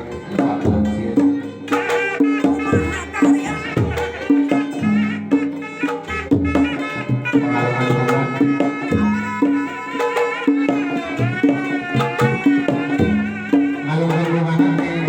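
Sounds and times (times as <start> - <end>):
hand drum strokes: 0.0 - 15.0
wavering melody line: 1.9 - 15.0.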